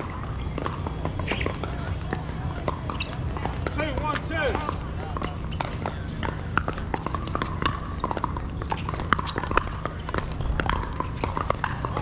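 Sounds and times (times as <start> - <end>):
paddles hitting plastic ball: 0.0 - 12.0.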